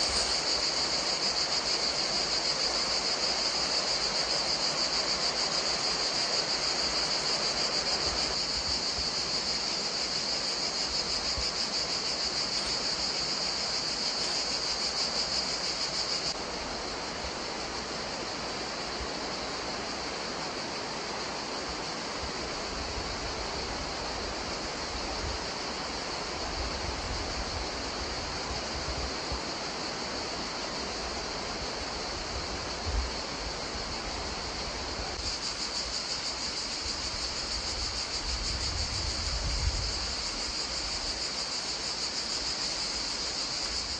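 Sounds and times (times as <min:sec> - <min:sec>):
faint outdoor hiss: 0:00.0 - 0:43.9
high-pitched insect chorus: 0:00.0 - 0:43.9.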